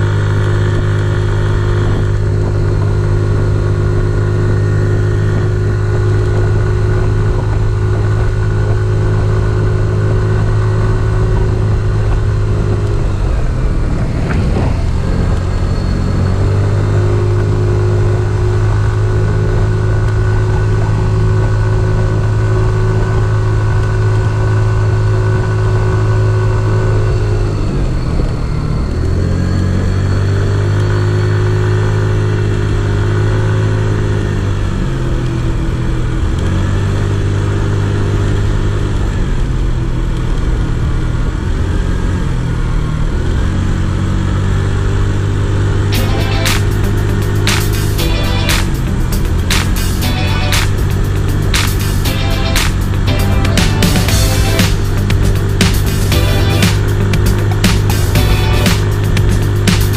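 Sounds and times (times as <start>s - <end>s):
scooter engine droning: 0.0s - 59.9s.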